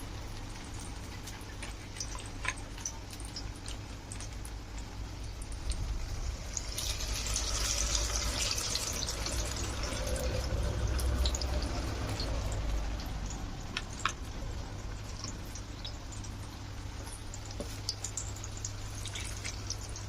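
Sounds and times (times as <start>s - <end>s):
chicken frying in hot oil: 0.0s - 20.0s.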